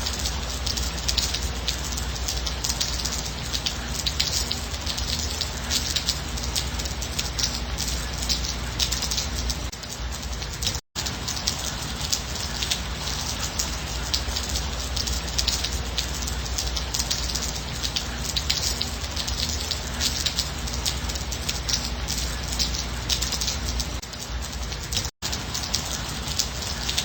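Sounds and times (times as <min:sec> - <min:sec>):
rain drops pattering: 0:00.0 - 0:27.0.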